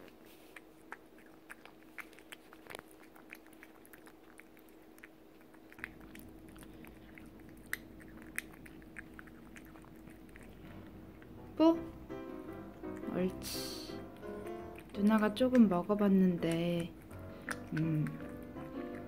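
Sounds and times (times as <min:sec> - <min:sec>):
cat chewing and licking: 0:00.0 - 0:19.0
faint steady hum: 0:00.0 - 0:19.0.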